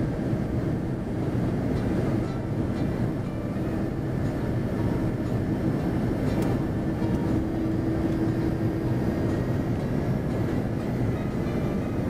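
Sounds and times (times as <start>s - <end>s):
aircraft cabin engine rumble: 0.0s - 12.0s
steady humming tone: 0.0s - 12.0s.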